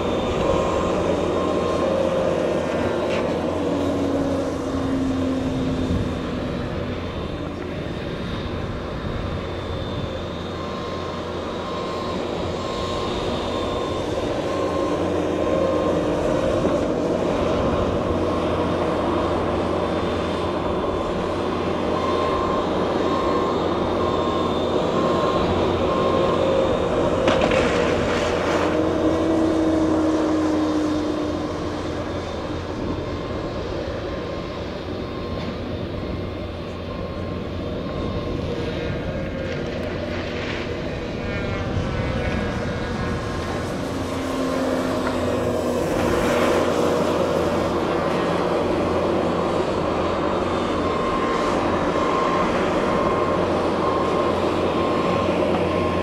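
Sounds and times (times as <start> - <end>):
model airplane motor droning: 0.0 - 56.0.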